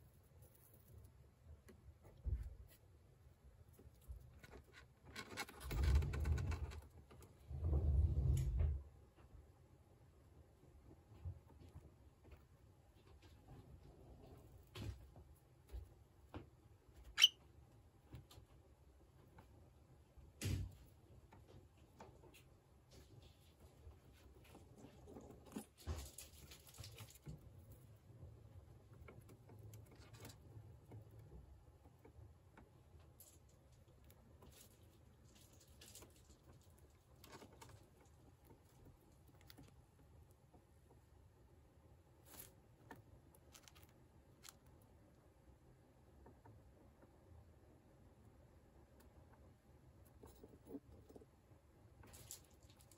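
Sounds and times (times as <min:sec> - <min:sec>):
faint clicks and scratches: 0:00.0 - 0:52.9.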